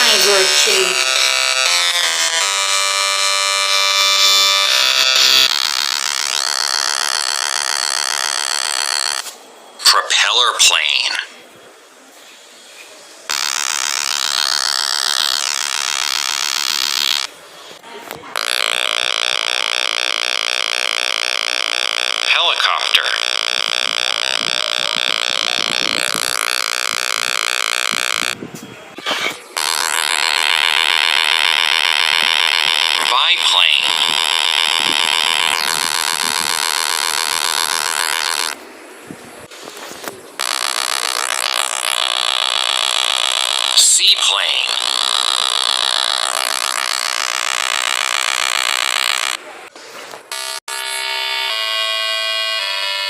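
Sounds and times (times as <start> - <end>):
propeller engine buzzing: 0.0 - 9.3, 13.3 - 17.5, 18.3 - 28.4, 29.4 - 53.0.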